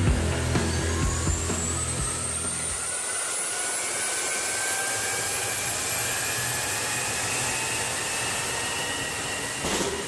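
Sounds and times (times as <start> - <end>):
gas turbine engine whine: 0.0 - 10.0.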